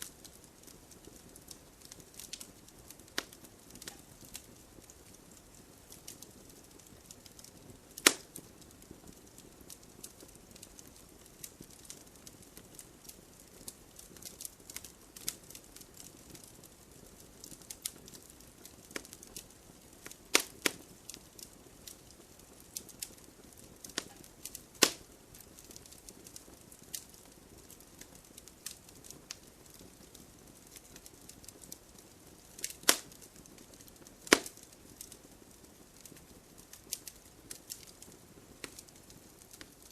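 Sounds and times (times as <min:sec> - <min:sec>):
burning logs popping: 0:00.0 - 0:39.9
hiss of flames: 0:00.0 - 0:39.9
wood fire crackling: 0:00.0 - 0:39.9.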